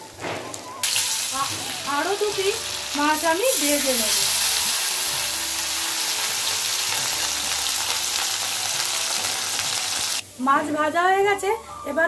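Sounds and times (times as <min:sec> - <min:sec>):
fish sizzling in hot oil: 0:00.1 - 0:10.2.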